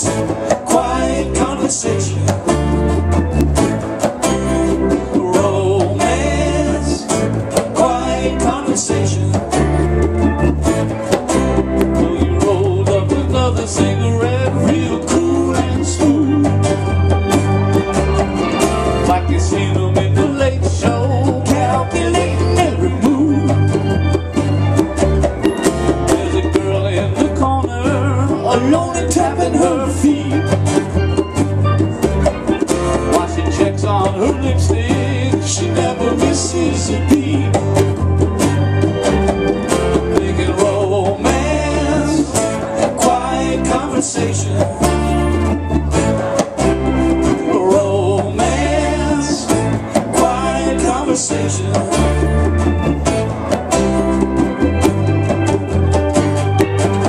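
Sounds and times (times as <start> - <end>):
live band playing: 0.0 - 57.0.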